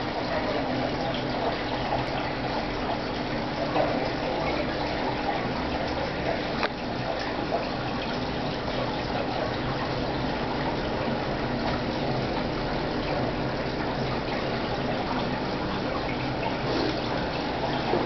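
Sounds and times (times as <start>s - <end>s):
aquarium air bubbling: 0.0s - 18.0s.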